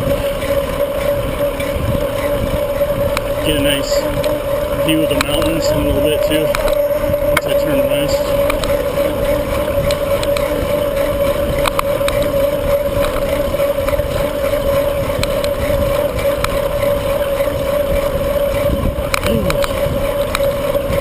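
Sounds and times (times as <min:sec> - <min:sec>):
steady hum: 0:00.0 - 0:21.0
wind rushing over microphone: 0:00.0 - 0:21.0.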